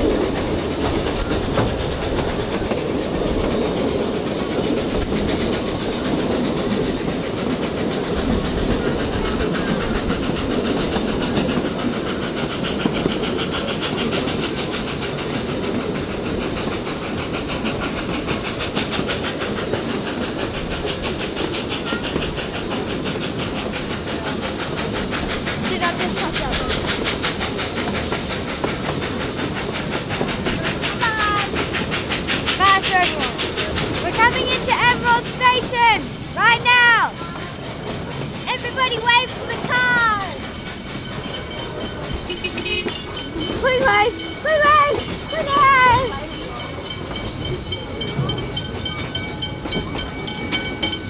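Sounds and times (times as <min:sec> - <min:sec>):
train wheels clickety-clack on rails: 0:00.0 - 0:51.0.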